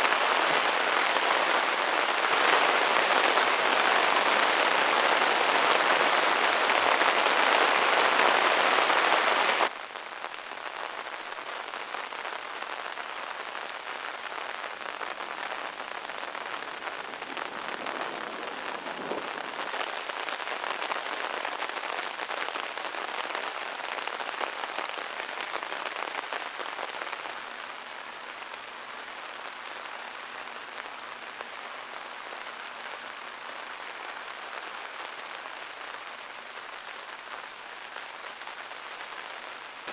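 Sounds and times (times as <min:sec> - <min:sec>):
heavy rain pouring: 0:00.0 - 0:28.0, 0:29.3 - 0:39.9.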